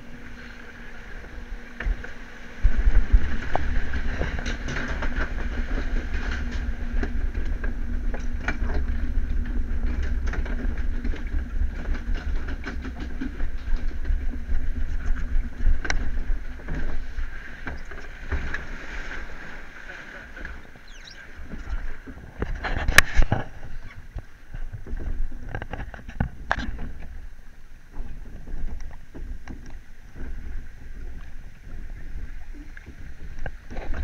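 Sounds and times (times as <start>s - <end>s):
low rumble: 0.0s - 34.0s
rushing water: 0.0s - 34.0s.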